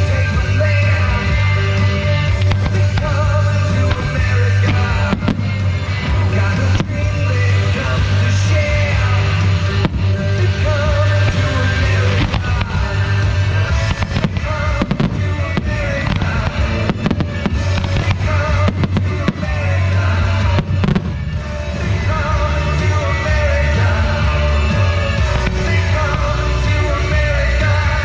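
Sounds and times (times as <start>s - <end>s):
fireworks banging: 0.0s - 28.0s
loud music with heavy bass: 0.0s - 28.0s.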